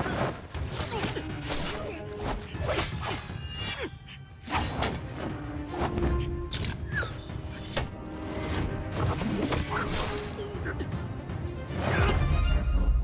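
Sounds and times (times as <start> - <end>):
dramatic orchestral film score: 0.0 - 13.0.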